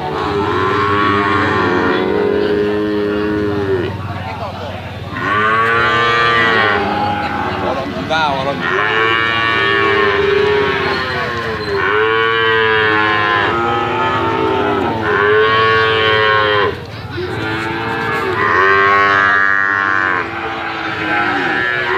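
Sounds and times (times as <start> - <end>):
cattle mooing: 0.0 - 4.0, 5.1 - 21.9.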